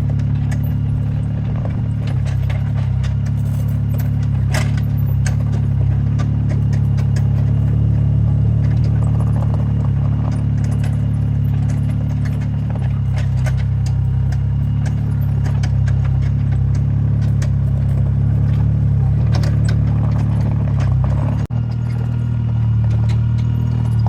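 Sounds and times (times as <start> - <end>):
diesel engine running: 0.0 - 24.0
metal clanks and rattles: 0.0 - 24.0.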